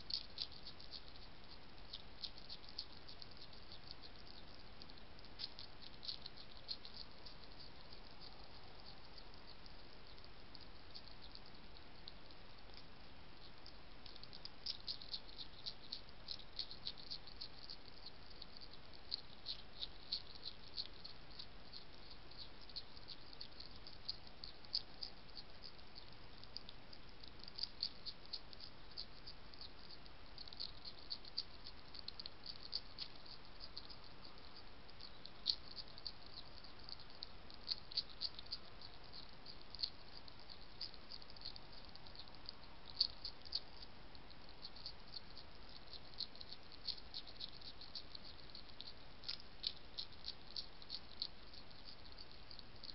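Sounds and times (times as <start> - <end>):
faint steady hiss: 0.0 - 52.9
hedgehog crunching food: 0.0 - 52.9.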